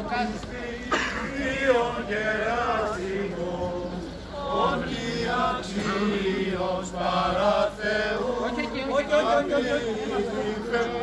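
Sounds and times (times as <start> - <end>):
men chanting a hymn: 0.0 - 11.0.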